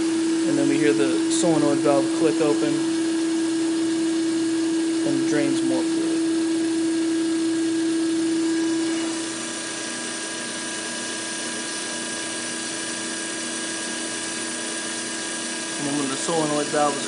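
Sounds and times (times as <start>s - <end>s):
loud steady hum: 0.0s - 17.0s
pump running: 0.0s - 17.0s.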